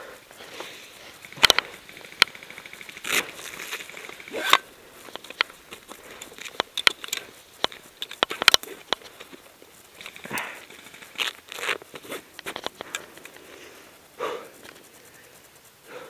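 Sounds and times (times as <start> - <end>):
footsteps through dry brush: 0.0 - 15.9
twigs snapping: 0.4 - 13.6.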